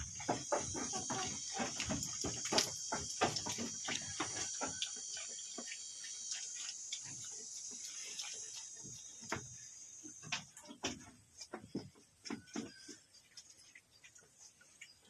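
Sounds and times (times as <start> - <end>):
goats chewing leaves: 0.0 - 15.0.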